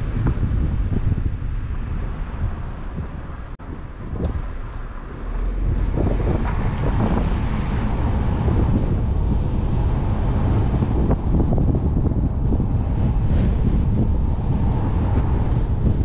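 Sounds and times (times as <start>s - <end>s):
road rumble: 0.0s - 16.0s
wind on microphone: 0.0s - 16.0s.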